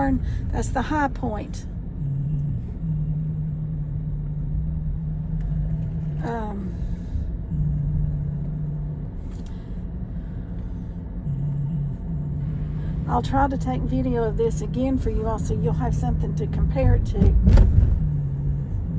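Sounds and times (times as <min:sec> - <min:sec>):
engine and road noise rumble: 0:00.0 - 0:18.9.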